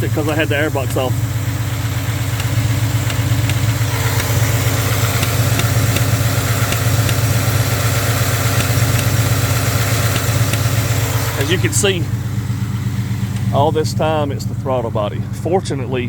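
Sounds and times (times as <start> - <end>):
faint irregular ticking: 0.0 - 16.0
truck engine idling: 0.0 - 16.0.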